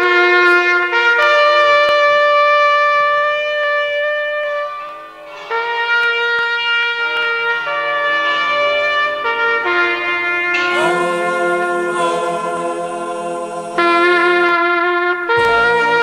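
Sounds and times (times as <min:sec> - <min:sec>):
solo trumpet call: 0:00.0 - 0:16.0.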